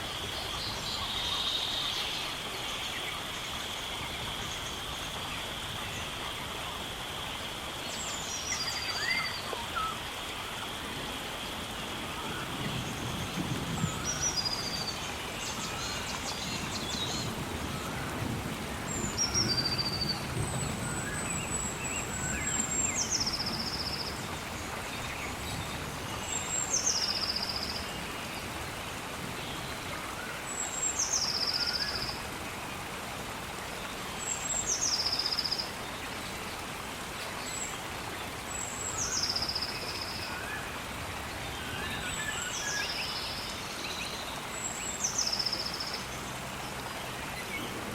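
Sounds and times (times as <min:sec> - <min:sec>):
steady outdoor hiss: 0:00.0 - 0:47.9.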